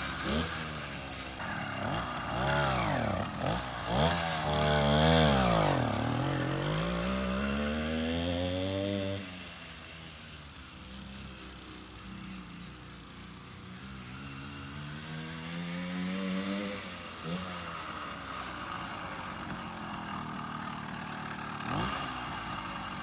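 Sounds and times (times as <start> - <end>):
two-stroke minibike engine revving: 0.0 - 23.0.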